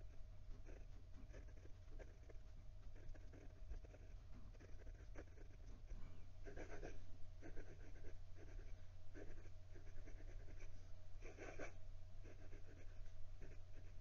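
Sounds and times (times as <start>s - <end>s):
fountain pen writing on paper: 0.5s - 10.6s, 11.2s - 14.0s.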